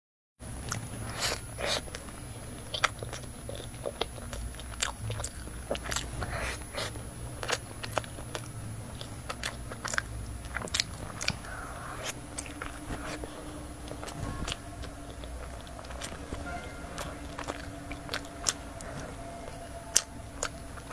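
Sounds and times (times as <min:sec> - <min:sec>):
chewing soft bun: 0:00.5 - 0:20.9
biting into bun: 0:00.6 - 0:20.9.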